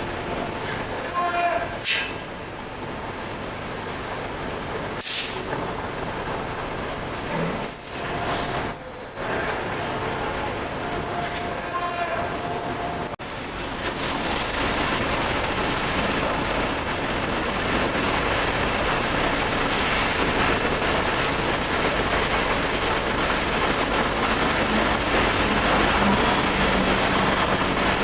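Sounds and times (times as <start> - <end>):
steady machinery noise: 0.0 - 28.0.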